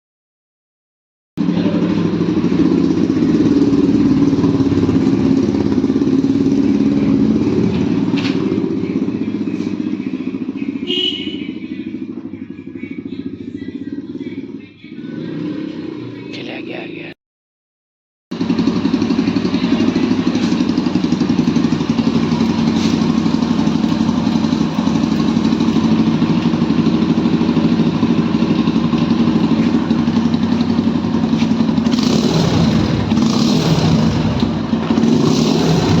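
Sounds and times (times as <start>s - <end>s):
motorcycle engine exhaust: 1.4s - 16.3s, 18.3s - 36.0s.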